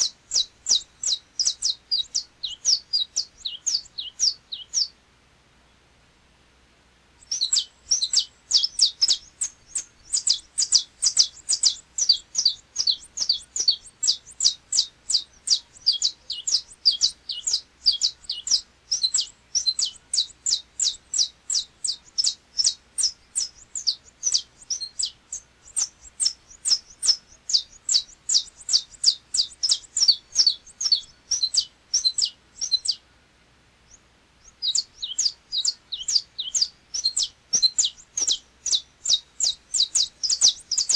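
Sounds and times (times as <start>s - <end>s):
finch singing rapid high notes: 0.0s - 4.9s, 7.2s - 33.0s, 33.9s - 40.9s.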